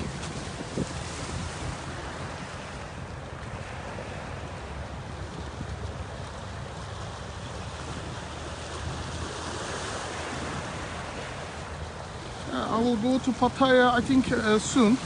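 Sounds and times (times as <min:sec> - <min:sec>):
surf washing on shore: 0:00.0 - 0:15.0
wind buffeting microphone: 0:00.0 - 0:15.0.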